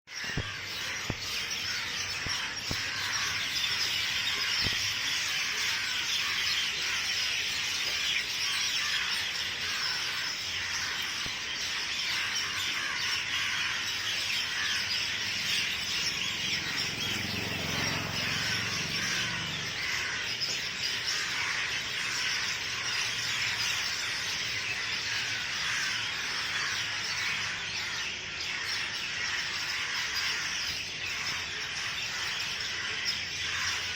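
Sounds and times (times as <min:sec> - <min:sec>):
chorus of birds chirping: 0:00.1 - 0:33.9.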